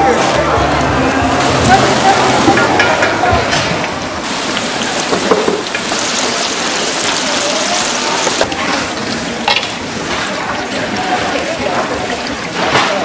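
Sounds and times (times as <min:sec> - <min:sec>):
fritters deep-frying in oil: 0:01.3 - 0:13.0.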